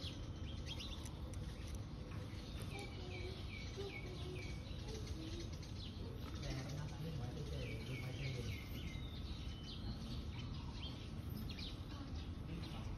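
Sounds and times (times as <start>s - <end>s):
bird chirping: 0.0s - 12.9s
low background hum: 0.0s - 12.9s.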